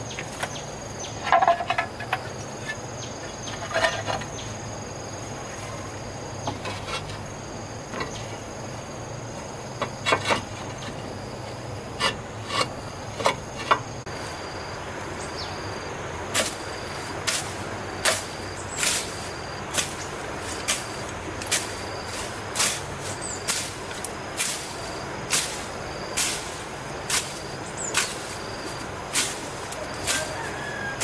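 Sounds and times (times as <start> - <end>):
insect chirring: 6.0 - 31.0.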